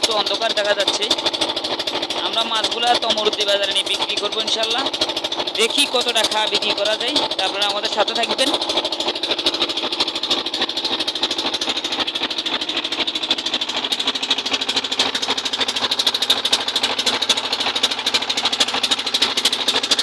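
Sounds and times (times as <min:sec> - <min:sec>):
boat engine chugging: 0:00.0 - 0:20.0.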